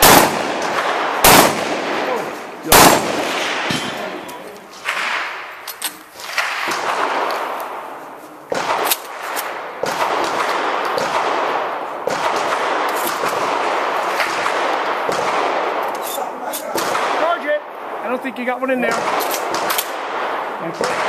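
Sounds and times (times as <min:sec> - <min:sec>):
shotgun shots with echo: 0:00.0 - 0:05.5, 0:06.2 - 0:07.9, 0:08.5 - 0:17.7, 0:18.8 - 0:21.0.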